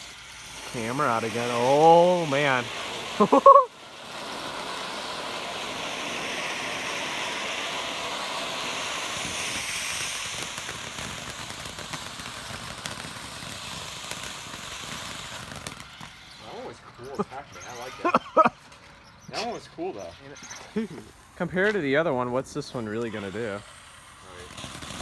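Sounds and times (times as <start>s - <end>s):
firework crackles: 0.0s - 18.7s, 19.5s - 25.0s
firework fountain hissing: 0.0s - 25.0s.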